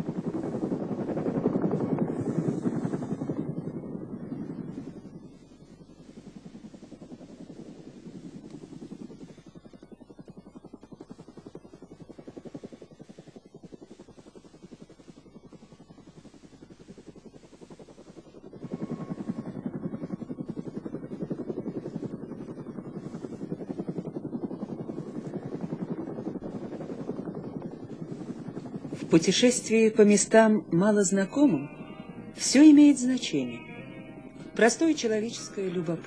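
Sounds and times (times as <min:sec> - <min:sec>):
helicopter rotor beating: 0:00.0 - 0:36.0
helicopter turbine noise: 0:00.0 - 0:36.0.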